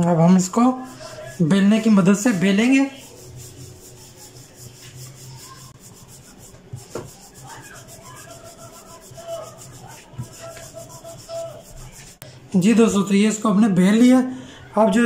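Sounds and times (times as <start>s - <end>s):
rolling pin rolling dough: 0.0s - 12.2s.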